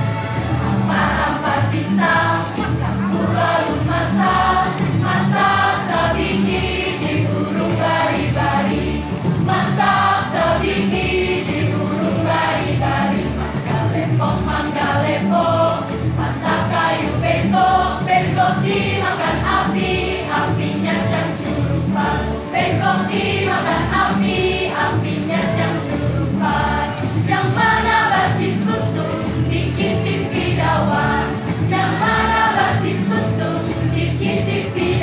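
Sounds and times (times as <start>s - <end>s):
choir singing: 0.0s - 35.0s
electronic keyboard accompaniment: 0.0s - 35.0s.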